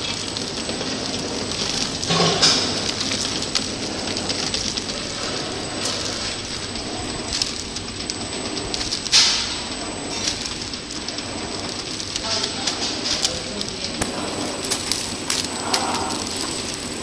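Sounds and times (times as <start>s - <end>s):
packing machine whirr and hiss: 0.0s - 17.0s.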